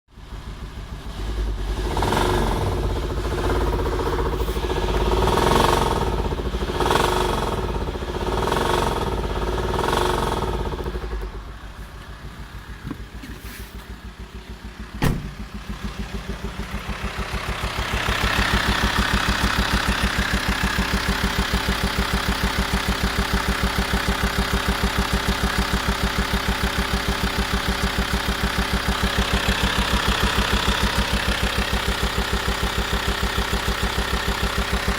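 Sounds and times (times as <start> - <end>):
diesel engine pulsing: 0.1 - 34.9.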